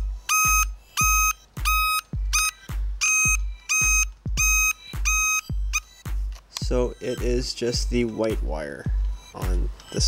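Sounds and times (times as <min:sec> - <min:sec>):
circuit tester beeping: 0:00.0 - 0:10.0.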